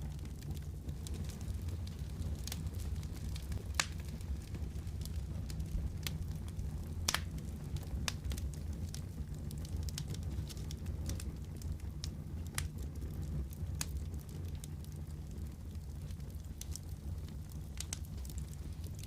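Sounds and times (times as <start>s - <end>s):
wood fire crackling in fireplace: 0.0s - 19.0s.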